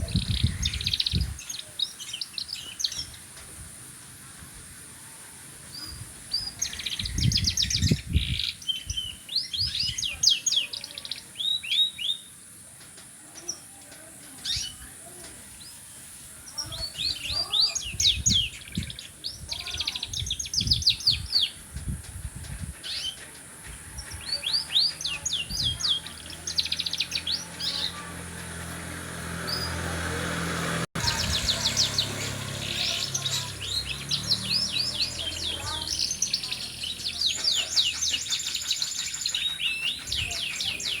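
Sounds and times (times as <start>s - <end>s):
canary singing trills: 0.0s - 3.3s, 5.7s - 12.6s, 13.2s - 41.0s.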